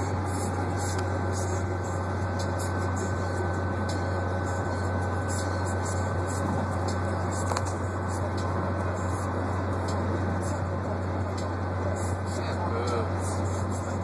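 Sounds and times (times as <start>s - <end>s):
car cabin hum and hiss: 0.0s - 14.0s.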